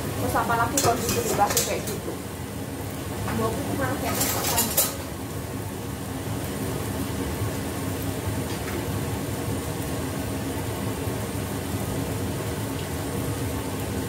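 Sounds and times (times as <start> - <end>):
gas stove rushing noise: 0.0 - 14.0.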